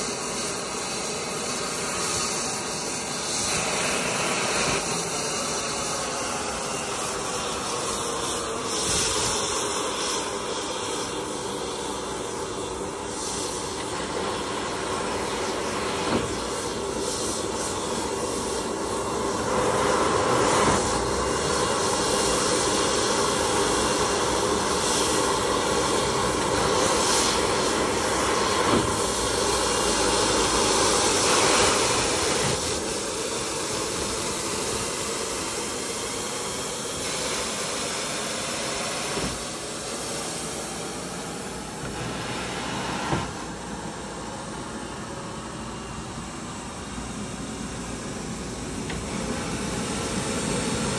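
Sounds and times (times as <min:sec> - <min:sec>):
jet engine noise: 0:00.0 - 0:50.9.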